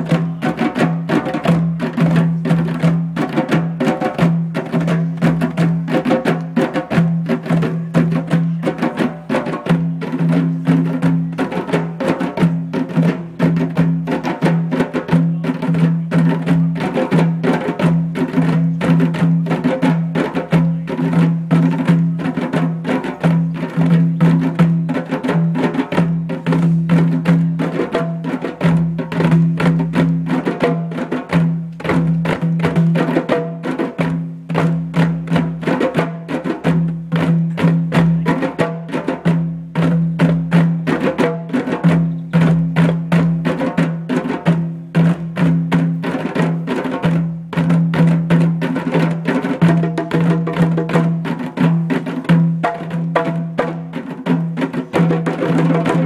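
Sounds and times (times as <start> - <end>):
djembe drums played by hand: 0.0 - 56.0.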